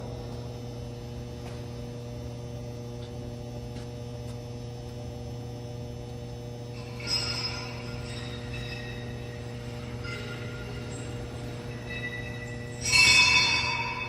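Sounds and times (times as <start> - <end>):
machine electrical hum: 0.0 - 14.0.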